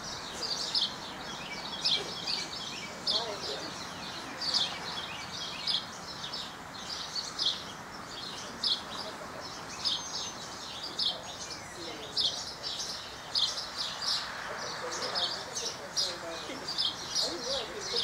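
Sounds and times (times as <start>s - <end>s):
outdoor background noise: 0.0s - 18.0s
songbirds chirping: 0.0s - 18.0s.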